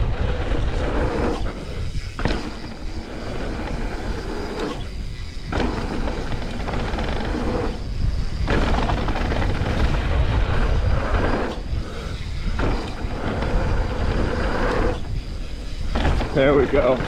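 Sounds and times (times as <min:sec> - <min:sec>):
bike tyres rattling on dirt: 0:00.0 - 0:17.0
wind rumbling on microphone: 0:00.0 - 0:17.0.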